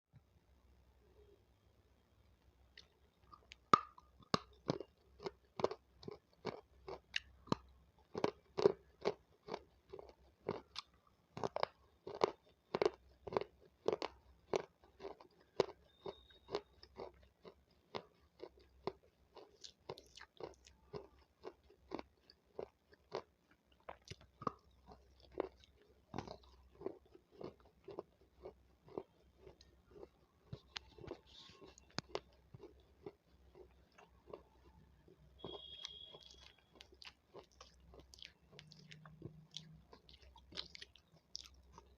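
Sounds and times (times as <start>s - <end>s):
crunchy chewing of raw pepper: 2.8s - 41.9s.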